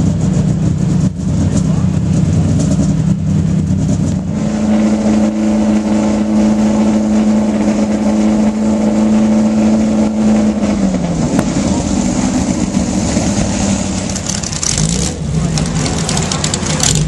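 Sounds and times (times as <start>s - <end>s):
race car engine running steadily: 0.0s - 17.0s.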